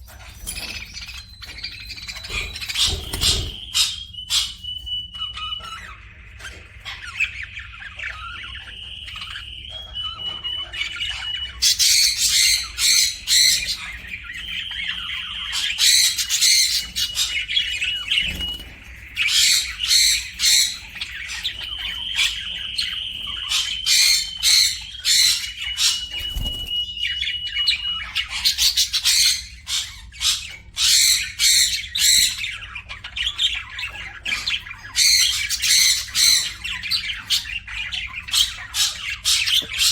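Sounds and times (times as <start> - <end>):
parrots screeching: 0.0 - 39.9.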